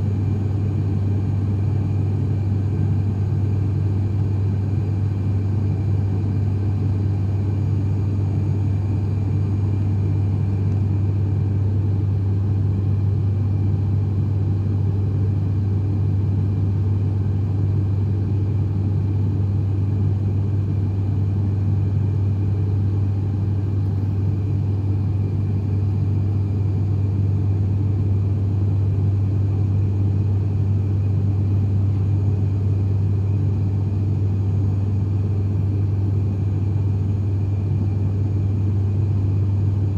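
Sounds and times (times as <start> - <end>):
turboprop engine drone in cabin: 0.0 - 39.9.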